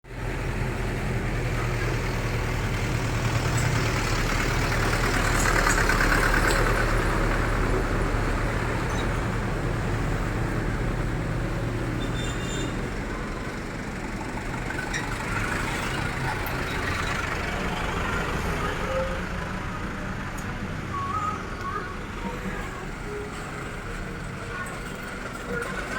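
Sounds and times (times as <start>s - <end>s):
diesel engine running: 0.1s - 25.9s.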